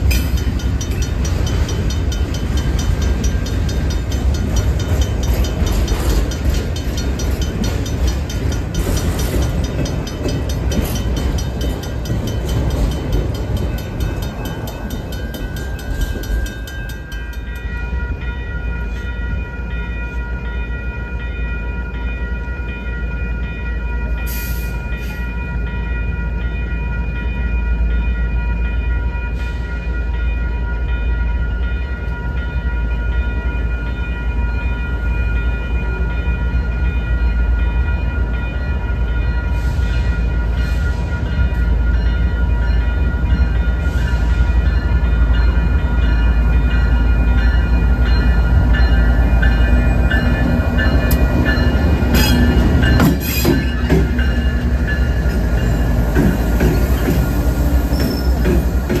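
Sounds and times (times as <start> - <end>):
crossing warning bells ringing: 0.0 - 59.0
freight train rumble: 0.0 - 59.0.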